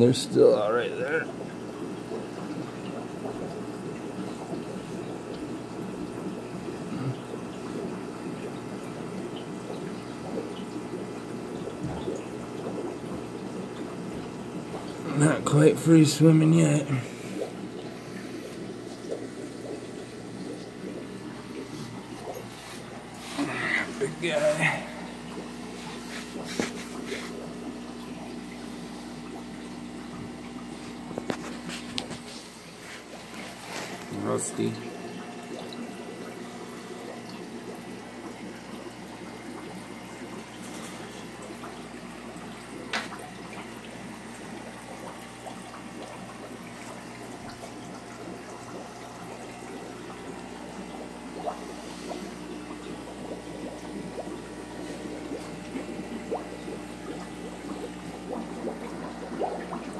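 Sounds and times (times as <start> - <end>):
aquarium water bubbling: 0.0 - 59.9.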